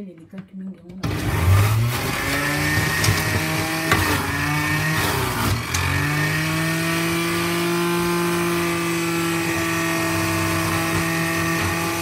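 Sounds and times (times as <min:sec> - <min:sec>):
juicer motor humming: 0:01.0 - 0:12.0.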